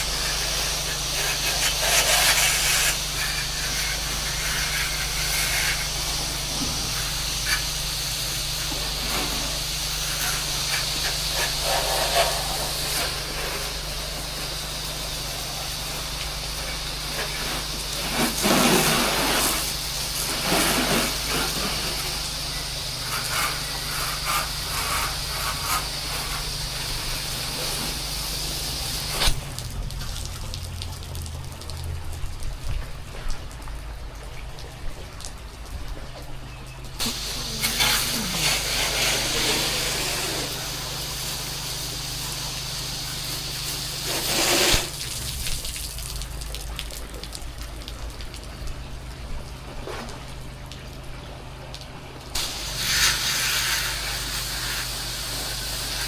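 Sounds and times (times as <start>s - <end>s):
water spray hissing: 0.0s - 32.2s, 37.0s - 47.8s, 52.3s - 56.0s
low machine hum: 0.0s - 56.0s.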